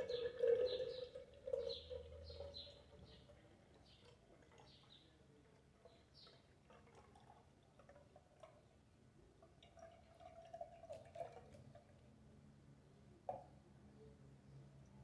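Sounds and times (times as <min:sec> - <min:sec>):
juice trickling and dripping: 0:00.0 - 0:12.2.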